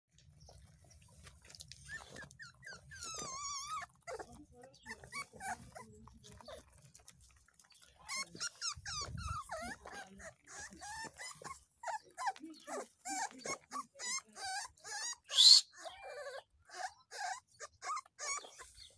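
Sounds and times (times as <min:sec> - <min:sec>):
puppy whining: 0:01.6 - 0:18.9.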